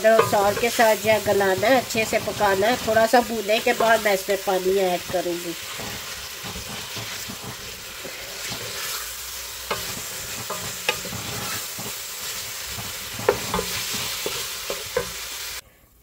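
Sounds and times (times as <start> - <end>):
wooden spatula scraping a pot: 0.0 - 4.4, 5.0 - 15.3
meat sizzling in a pot: 0.0 - 15.6.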